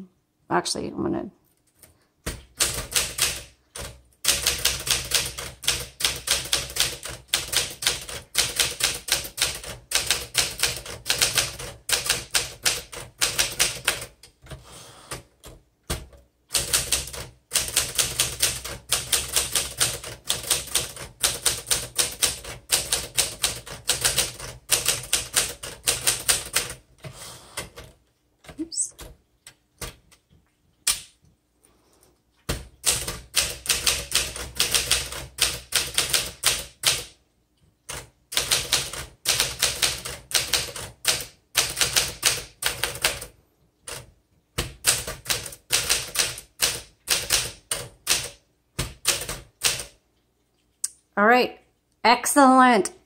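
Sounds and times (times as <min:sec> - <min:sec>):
manual typewriter keystrokes clattering: 0:01.7 - 0:30.3, 0:32.4 - 0:37.2, 0:37.8 - 0:50.0.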